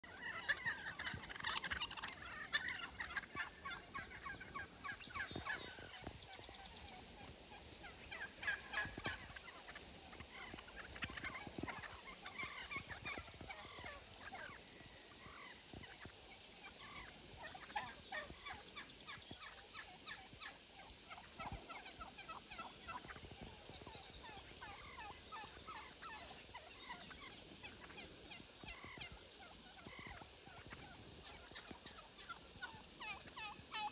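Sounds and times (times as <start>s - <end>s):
wild turkeys gobbling: 0.0s - 33.9s.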